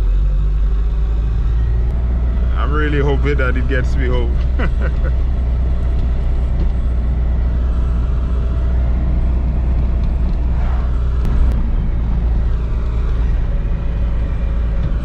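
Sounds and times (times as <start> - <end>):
car engine cruising: 0.0 - 15.0
road rumble: 0.0 - 15.0.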